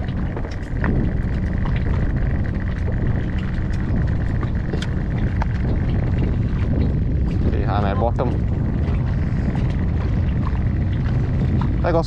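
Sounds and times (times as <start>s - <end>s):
water slapping against hull: 0.0s - 12.0s
wind buffeting microphone: 0.0s - 12.0s.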